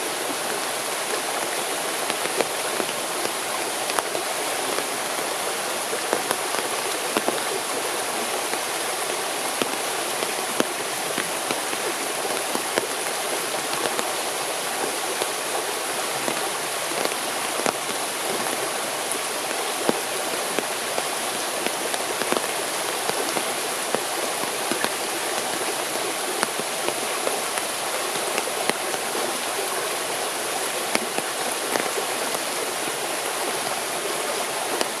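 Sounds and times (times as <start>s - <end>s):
water running with splashes: 0.0s - 35.0s.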